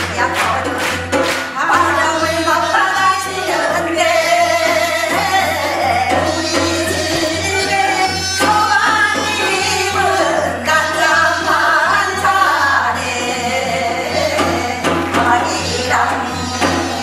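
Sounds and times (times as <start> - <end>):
folk singing: 0.0 - 17.0.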